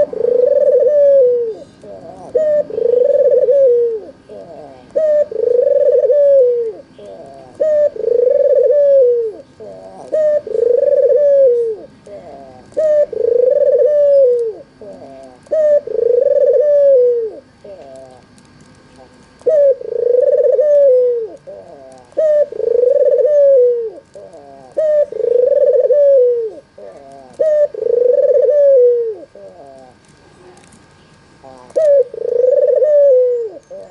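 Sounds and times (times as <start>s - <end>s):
dove cooing: 0.0s - 18.2s, 19.4s - 30.6s, 31.4s - 33.9s.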